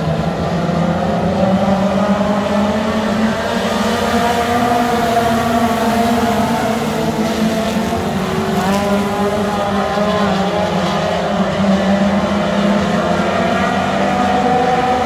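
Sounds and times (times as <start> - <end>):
race car engines racing: 0.0 - 15.0.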